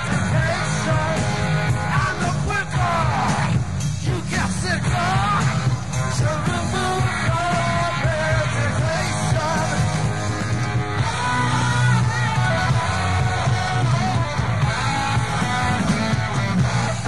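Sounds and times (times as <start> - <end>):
man singing lead vocal: 0.0 - 16.0
rock band playing: 0.0 - 17.0.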